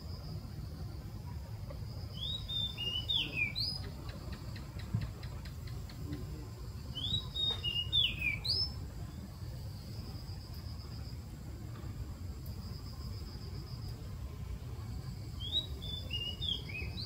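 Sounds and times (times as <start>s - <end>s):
crickets droning: 0.0s - 17.0s
songbird singing: 0.0s - 17.0s.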